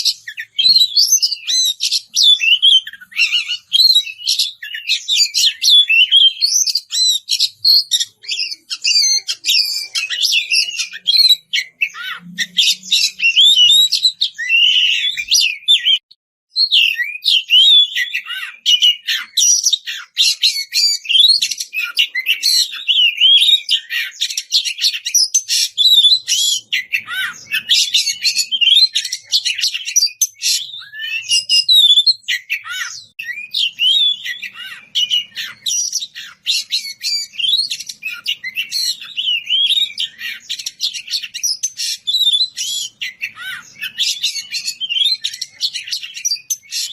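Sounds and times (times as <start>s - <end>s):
bird singing whistles and chatter: 0.0s - 46.9s.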